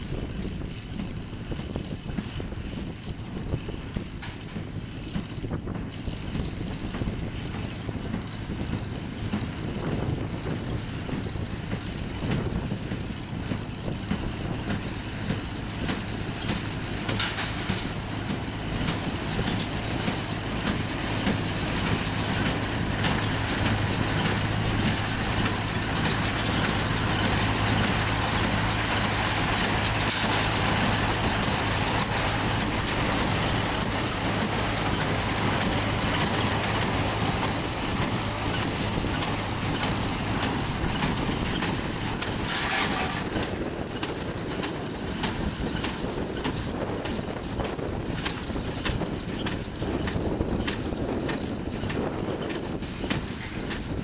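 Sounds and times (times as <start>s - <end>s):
baler mechanical clatter: 0.0s - 54.0s
engine humming: 0.0s - 54.0s.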